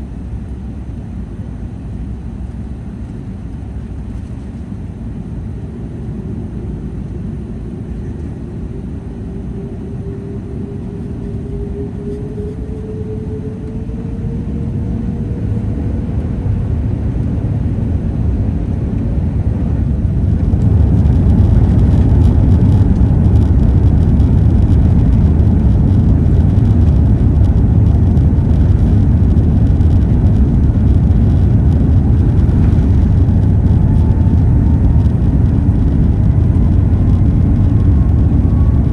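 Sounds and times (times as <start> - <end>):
jet engines spooling up: 4.0 - 38.9.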